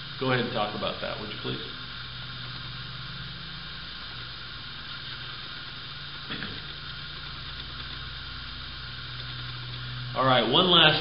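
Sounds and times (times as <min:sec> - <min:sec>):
low electrical hum: 0:00.0 - 0:11.0
steady hiss: 0:00.0 - 0:11.0.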